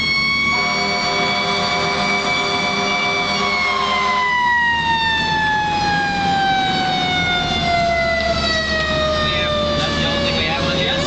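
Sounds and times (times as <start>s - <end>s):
fire engine siren wailing: 0.0s - 11.0s
truck engine rumble: 0.0s - 11.0s.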